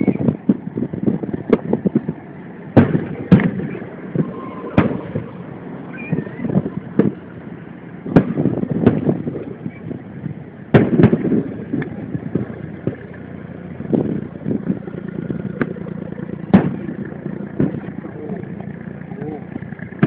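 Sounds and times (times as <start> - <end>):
echoes and crackle: 0.0 - 20.0
firework shells booming: 0.0 - 20.0.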